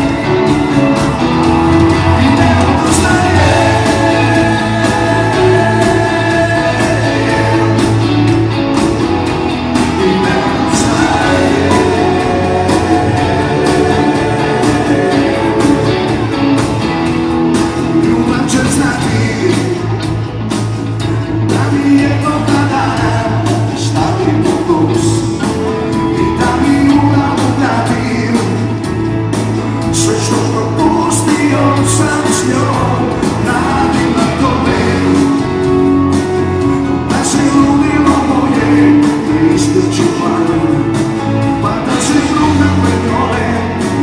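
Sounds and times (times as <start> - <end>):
live band playing with singer: 0.0 - 44.0.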